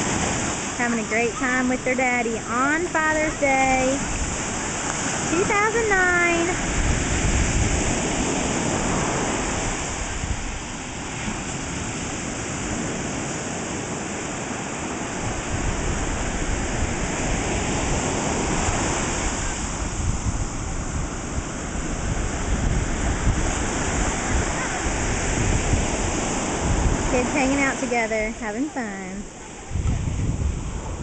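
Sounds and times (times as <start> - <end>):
small waves breaking: 0.0 - 31.0.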